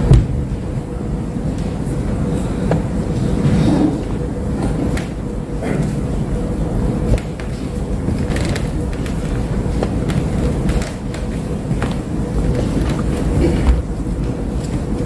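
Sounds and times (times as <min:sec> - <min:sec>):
faint hum: 0:00.0 - 0:15.0
low rumble of crowded hall: 0:00.0 - 0:15.0.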